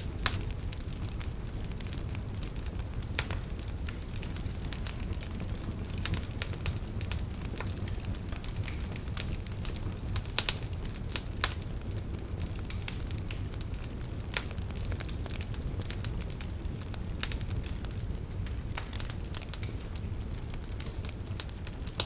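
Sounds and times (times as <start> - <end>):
campfire crackling and popping: 0.0 - 22.0
low rumble of flames: 0.0 - 22.0.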